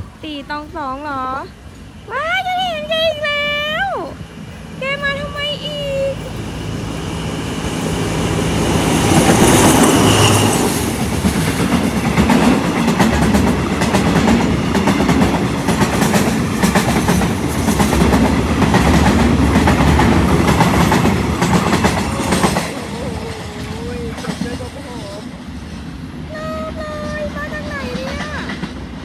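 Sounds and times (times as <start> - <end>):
low train rumble: 0.0 - 29.0
train wheels clicking over joints: 4.4 - 29.0.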